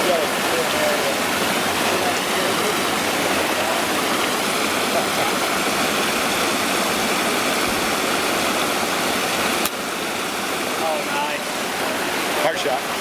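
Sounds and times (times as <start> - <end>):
mountain creek rushing: 0.0 - 13.0.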